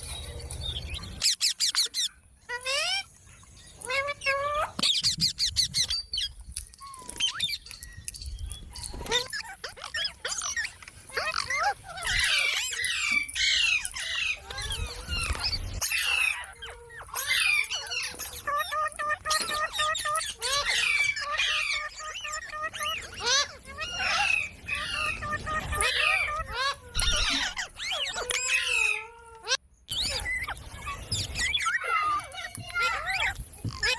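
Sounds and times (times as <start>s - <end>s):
parakeet chattering and whistling: 3.8s - 33.9s.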